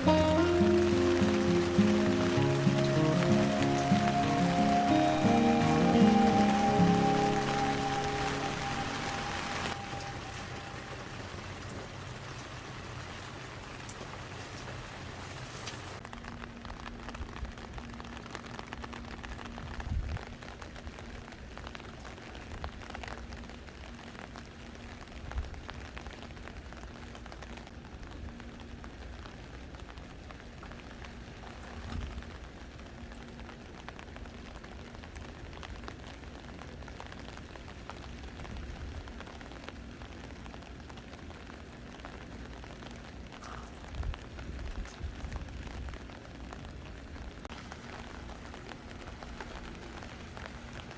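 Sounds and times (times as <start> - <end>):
rain falling steadily: 0.0 - 50.9.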